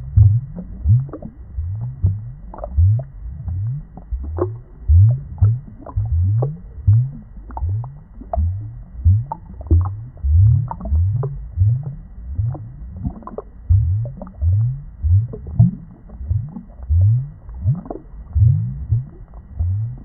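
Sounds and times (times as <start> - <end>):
underwater bubbling bloops: 0.0 - 20.0.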